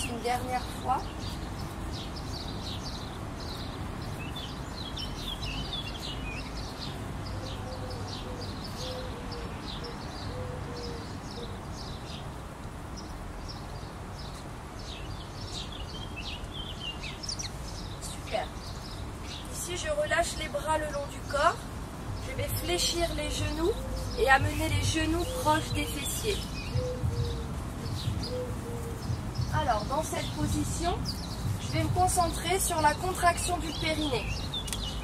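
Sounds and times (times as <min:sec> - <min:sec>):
lower evenly spaced bird notes: 0:00.0 - 0:35.0
small birds chirping: 0:00.0 - 0:35.0.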